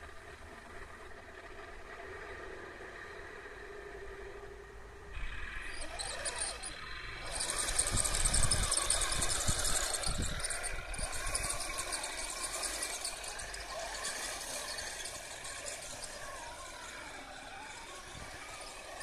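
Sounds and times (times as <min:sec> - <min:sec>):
toy tank driving over grass: 0:00.0 - 0:19.0.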